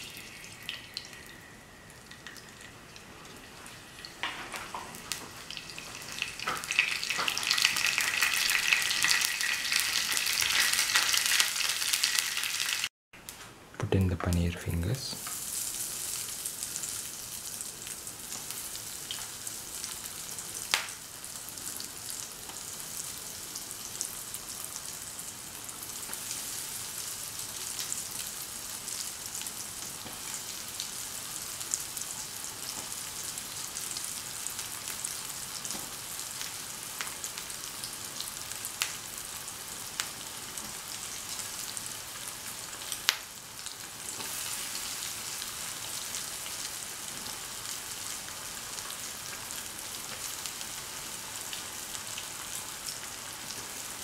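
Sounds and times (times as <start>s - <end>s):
food sizzling in oil: 0.0s - 12.9s, 15.2s - 54.0s.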